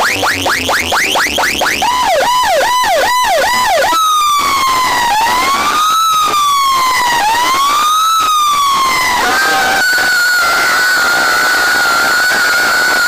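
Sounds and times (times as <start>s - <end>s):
electronic siren effect: 0.0s - 13.0s.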